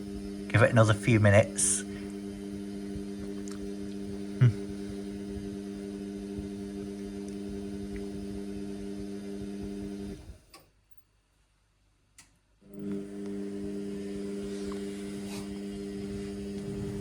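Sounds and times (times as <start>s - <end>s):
washing machine hum: 0.0s - 10.5s, 12.6s - 17.0s.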